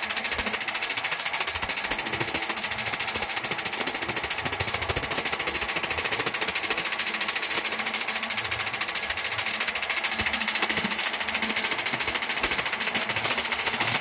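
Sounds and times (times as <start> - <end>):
diesel generator engine clatter: 0.0 - 14.0.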